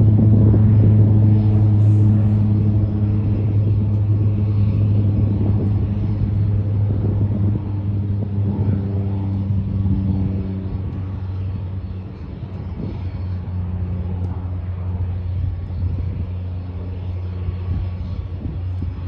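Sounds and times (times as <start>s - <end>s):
floatplane engine and propeller drone: 0.0s - 19.0s.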